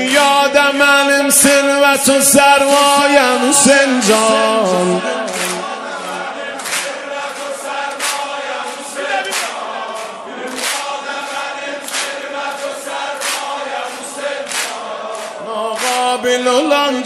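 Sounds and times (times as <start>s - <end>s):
male voices chanting together: 0.0s - 17.0s.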